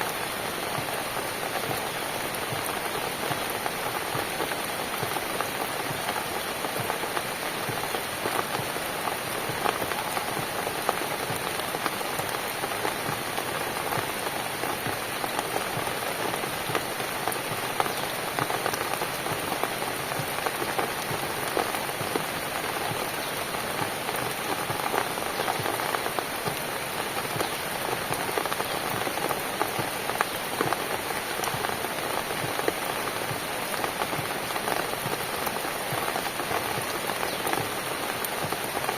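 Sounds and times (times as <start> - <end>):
raindrops pattering: 0.0 - 38.9
steady rain hiss: 0.0 - 38.9.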